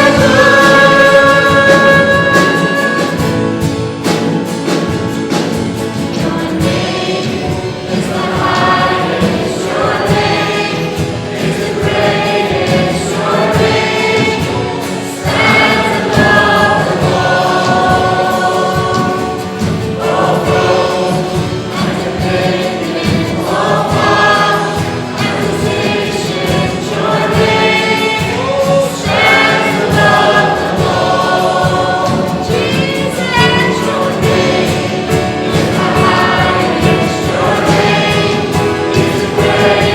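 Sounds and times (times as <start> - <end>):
group singing a worship song: 0.0 - 39.9
instrumental accompaniment: 0.0 - 39.9.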